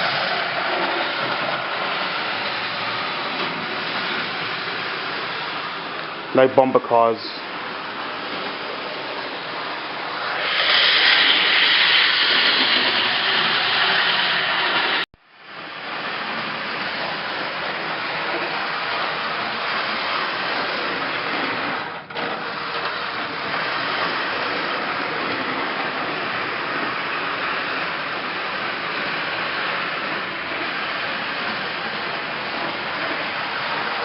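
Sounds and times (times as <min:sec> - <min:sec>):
model trains whirring on track: 0:00.0 - 0:34.0.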